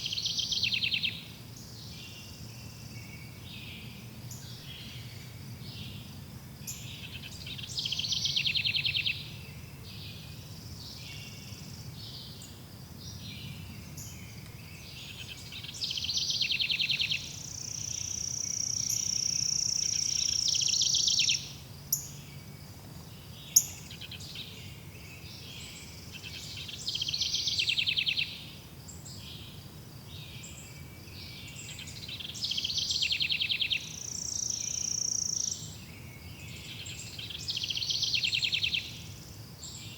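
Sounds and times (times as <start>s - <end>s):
faint bird chirps: 0.0s - 29.6s, 30.2s - 39.9s.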